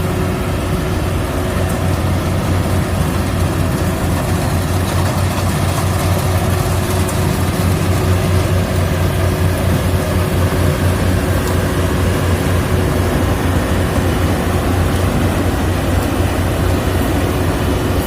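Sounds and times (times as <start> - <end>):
combine harvester engine droning: 0.0 - 18.0.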